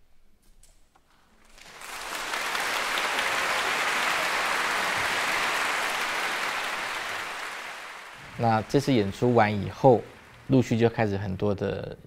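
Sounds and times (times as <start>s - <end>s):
audience applauding: 1.4s - 11.6s.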